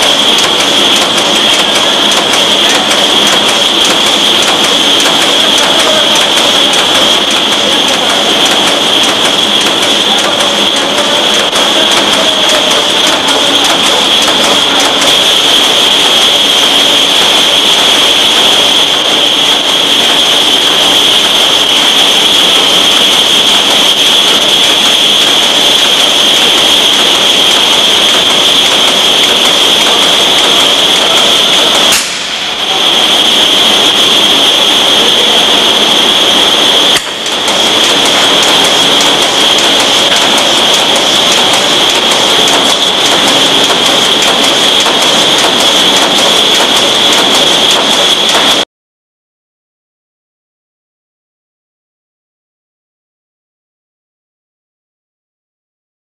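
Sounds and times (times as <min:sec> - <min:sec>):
high-pitched machine whine: 0:00.0 - 0:48.6
machinery clattering: 0:00.0 - 0:48.6.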